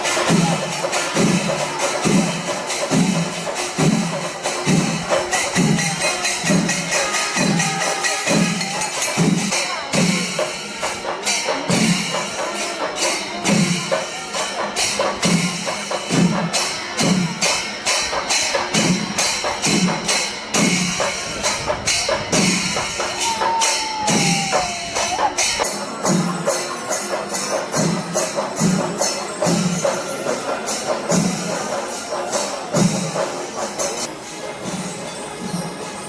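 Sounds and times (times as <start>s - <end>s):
drum strokes: 0.0s - 35.9s
hand cymbals clashing: 0.0s - 36.0s.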